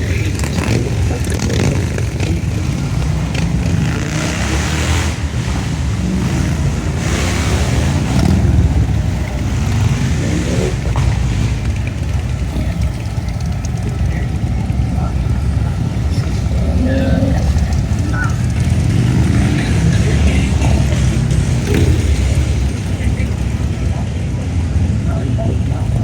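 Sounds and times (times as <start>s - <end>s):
car engines rumbling: 0.0s - 26.0s.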